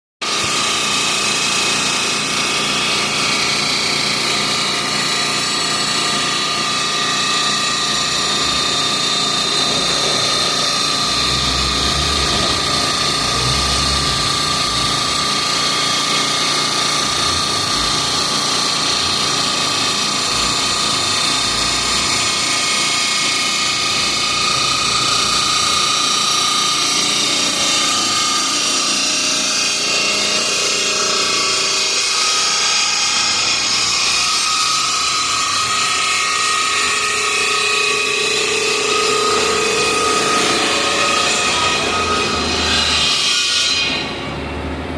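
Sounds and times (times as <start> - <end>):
machine spindle cutting marble: 0.2 - 44.9.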